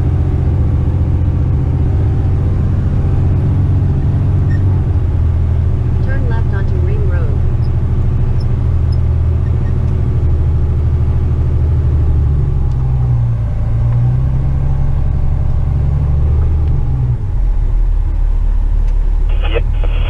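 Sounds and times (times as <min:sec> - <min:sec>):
truck diesel engine from cab: 0:00.0 - 0:20.0.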